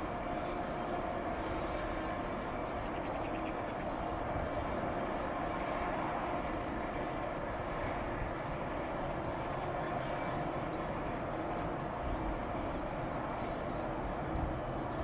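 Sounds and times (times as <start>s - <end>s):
diesel locomotives idling: 0.0s - 15.0s
faint steady tonal hum: 0.0s - 15.0s.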